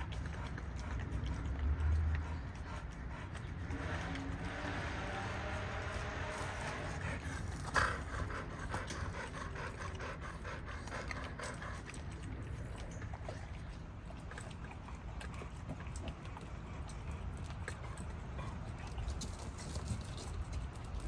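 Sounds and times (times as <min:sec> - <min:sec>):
dogs chewing and licking: 0:00.0 - 0:21.0.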